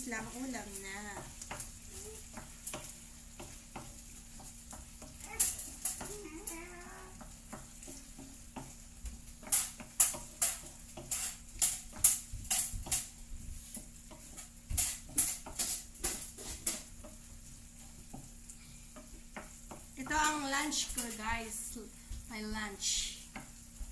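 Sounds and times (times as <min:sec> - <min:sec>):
wooden spatula scraping frying pan: 0:00.0 - 0:21.6
faint sizzle of frying: 0:00.0 - 0:23.9.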